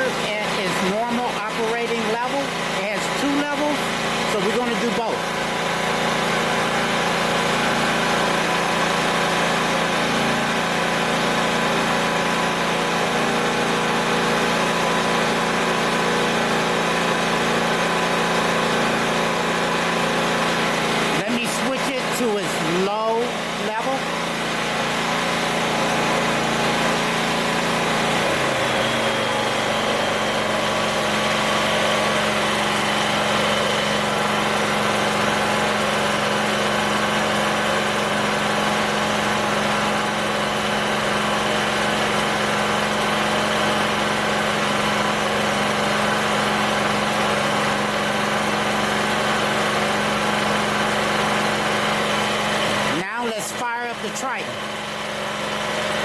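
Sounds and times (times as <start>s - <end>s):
portable generator running: 0.0s - 56.0s.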